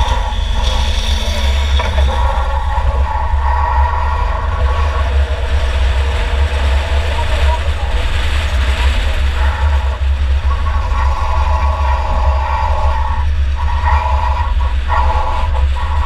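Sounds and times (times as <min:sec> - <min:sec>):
car engine running hard: 0:00.0 - 0:16.0
road and chassis rumble: 0:00.0 - 0:16.0.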